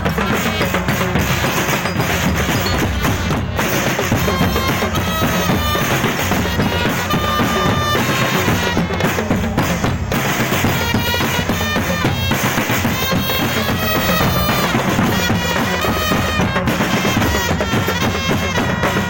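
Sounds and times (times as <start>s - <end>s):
bass and snare drums beat: 0.0s - 19.0s
wind instrument melody: 0.0s - 19.0s.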